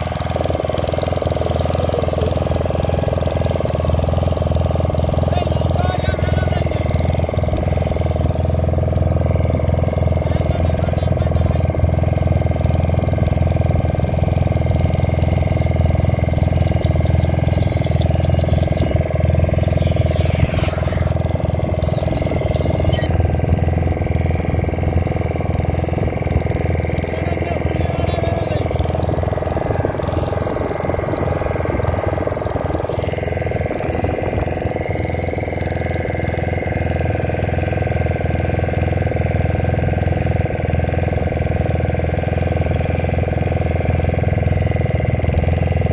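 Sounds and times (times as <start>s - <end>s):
boat engine humming: 0.0s - 45.9s.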